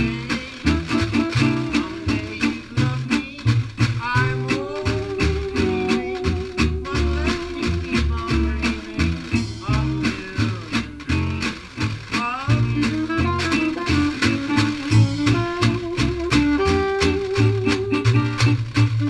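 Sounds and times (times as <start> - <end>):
saxophone melody: 0.0 - 9.8, 12.6 - 19.0
plucked upright bass: 0.0 - 19.0
strummed guitar: 0.0 - 19.0
washboard and cymbal beat: 0.0 - 19.0.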